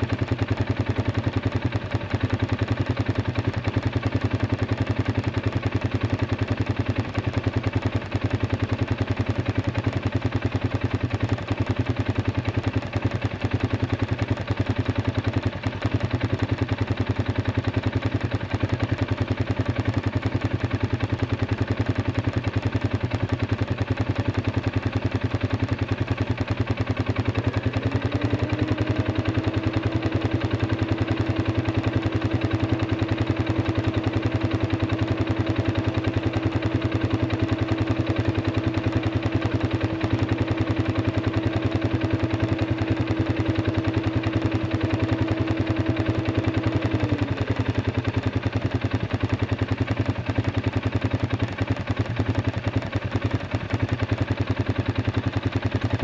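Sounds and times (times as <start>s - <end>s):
atv engine idling: 0.0s - 56.0s.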